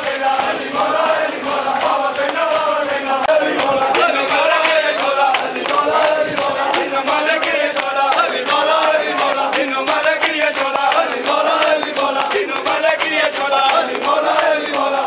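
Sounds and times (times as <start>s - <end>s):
hands slapping on chests: 0.0s - 15.0s
men chanting together: 0.0s - 15.0s.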